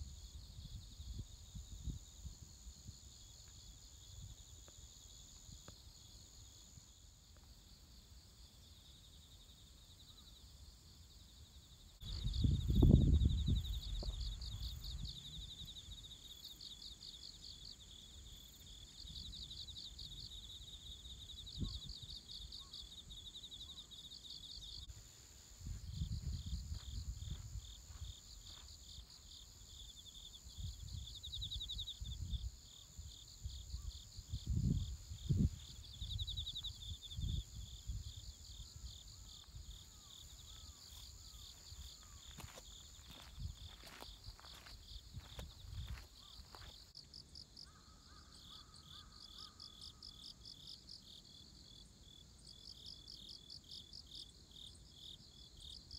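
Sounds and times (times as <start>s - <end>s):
crickets and insects chirring: 0.0s - 55.9s.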